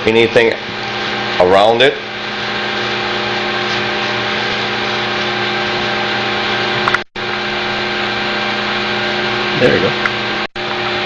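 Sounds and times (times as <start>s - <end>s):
machine drone with hum: 0.0s - 11.0s.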